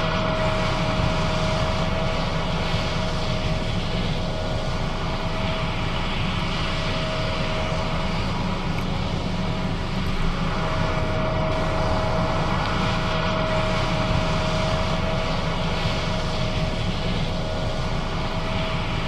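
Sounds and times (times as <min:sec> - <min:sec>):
combine harvester engine drone: 0:00.0 - 0:19.0
steady machine whine: 0:00.0 - 0:19.0.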